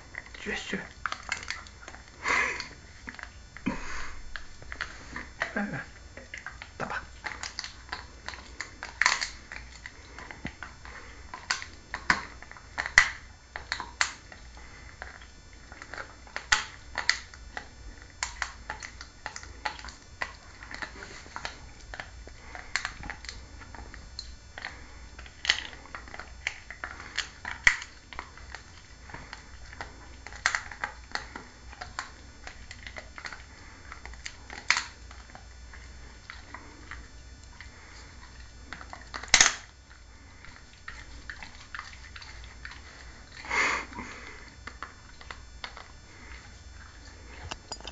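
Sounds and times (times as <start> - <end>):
dog chewing on phone: 0.0 - 3.6, 4.2 - 47.9.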